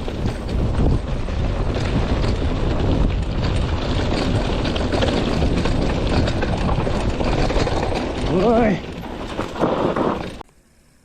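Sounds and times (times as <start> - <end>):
bike parts rattling: 0.0 - 10.4
gravel clatter: 0.0 - 10.4
wind rushing over microphone: 0.0 - 10.4.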